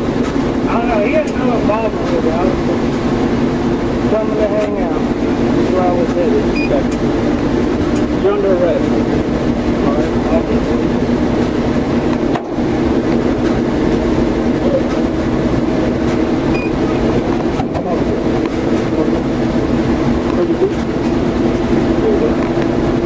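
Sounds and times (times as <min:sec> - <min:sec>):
motor droning steadily: 0:00.0 - 0:23.0.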